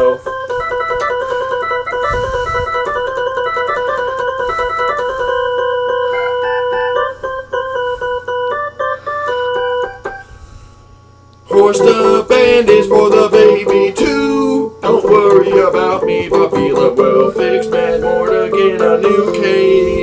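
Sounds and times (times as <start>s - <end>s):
organ-like keyboard melody: 0.0s - 10.4s, 11.4s - 20.0s.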